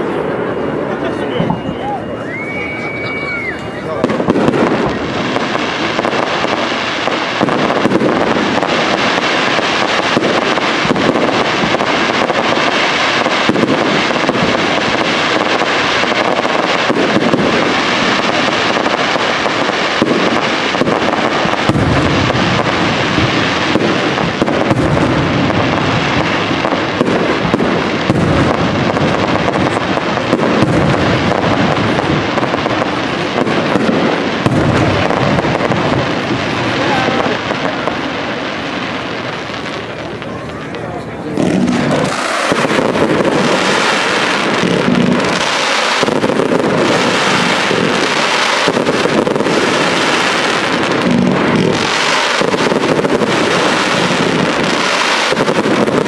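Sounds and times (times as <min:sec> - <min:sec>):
fireworks bangs and crackling: 0:00.0 - 0:56.0
heavy low fireworks bangs: 0:00.0 - 0:56.0.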